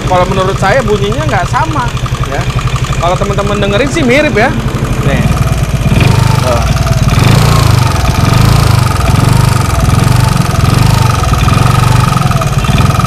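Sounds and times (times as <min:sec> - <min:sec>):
scooter engine idling roughly: 0:00.0 - 0:13.0.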